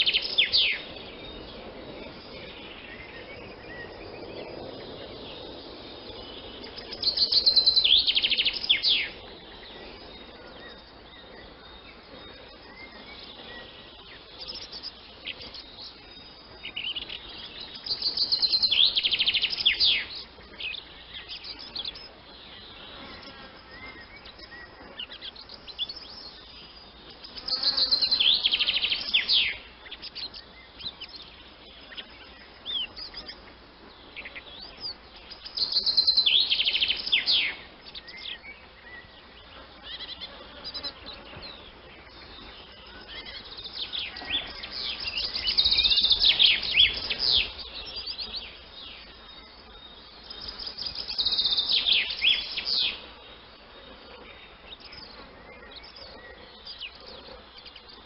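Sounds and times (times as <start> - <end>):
swallows twittering: 0.0 - 58.0.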